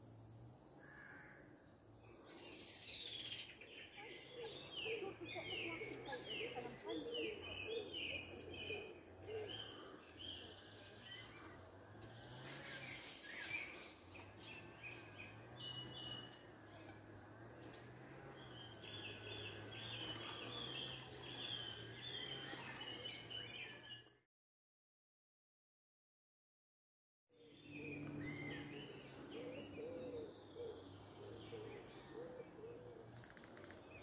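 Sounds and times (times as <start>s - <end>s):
songbird chirping and singing: 0.0s - 24.2s, 27.3s - 34.0s.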